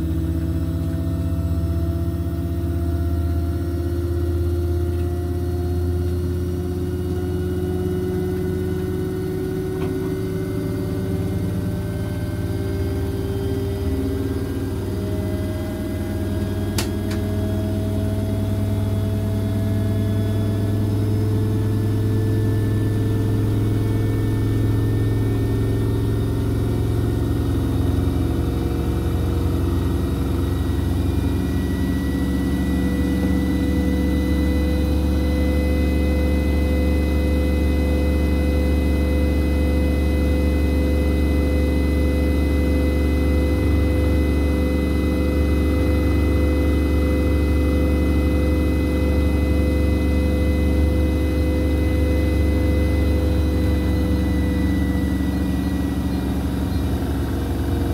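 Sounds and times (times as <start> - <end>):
washing machine spinning: 0.0 - 57.9.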